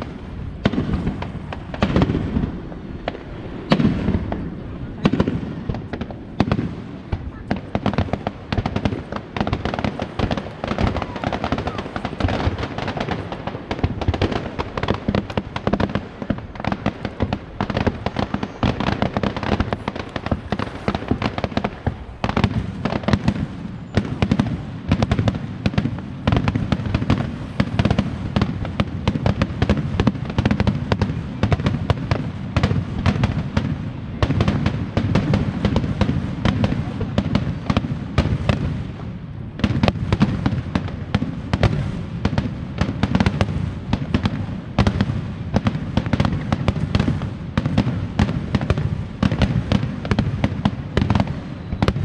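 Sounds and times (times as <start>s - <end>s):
fireworks crackling and banging: 0.0s - 52.0s.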